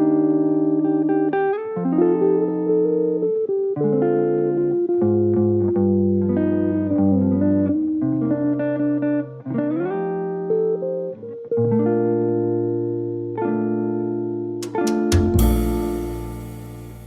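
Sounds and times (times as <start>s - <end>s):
mellow guitar music with bass: 0.0s - 17.0s.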